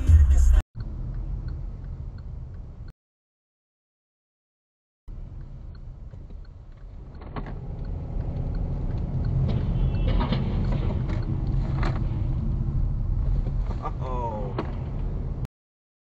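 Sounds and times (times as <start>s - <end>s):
car road and engine rumble: 0.0s - 2.9s, 5.1s - 15.5s.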